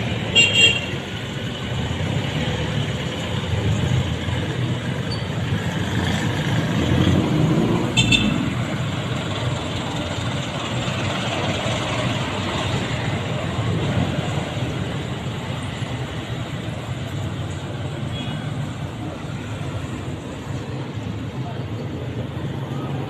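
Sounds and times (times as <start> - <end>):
motorcycles passing: 0.0 - 23.0
rumble of engines and tyres: 0.0 - 23.0.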